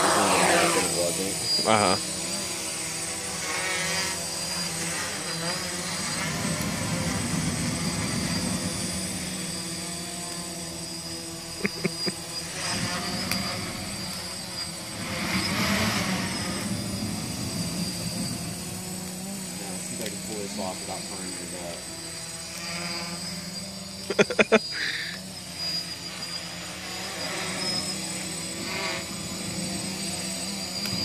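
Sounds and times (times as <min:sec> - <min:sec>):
drone propellers whirring: 0:00.0 - 0:31.0.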